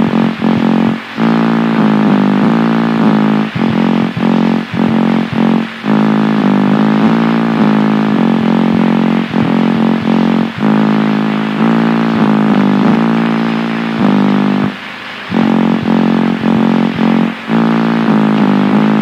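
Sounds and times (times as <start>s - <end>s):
low-pitched noise drone: 0.0s - 19.0s.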